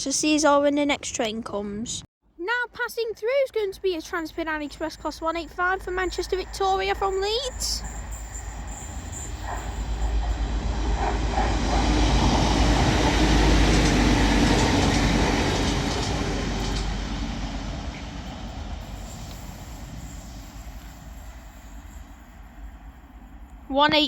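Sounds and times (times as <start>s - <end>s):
diesel train passing: 3.8s - 24.0s.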